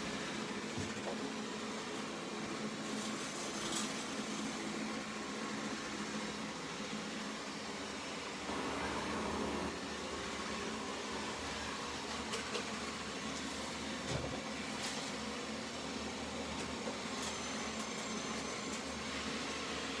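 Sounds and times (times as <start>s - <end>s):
robot vacuum cleaner running: 0.1s - 20.0s.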